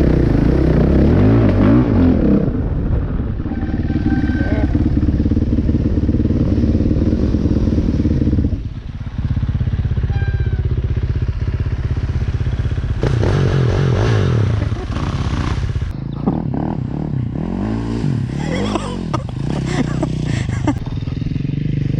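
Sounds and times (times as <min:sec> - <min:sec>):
dirt bike engine running: 0:00.0 - 0:21.9.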